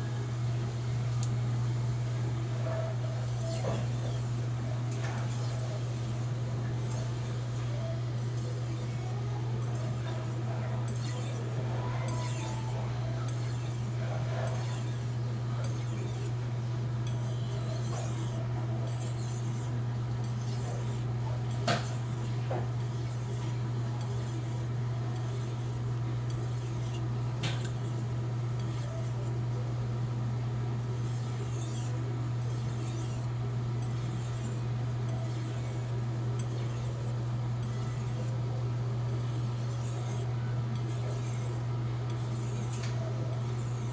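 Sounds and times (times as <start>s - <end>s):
steady low hum: 0.0s - 43.9s
knife scraping on whetstone: 2.8s - 16.4s, 17.0s - 28.0s, 28.6s - 29.3s, 31.0s - 38.4s, 39.1s - 43.9s.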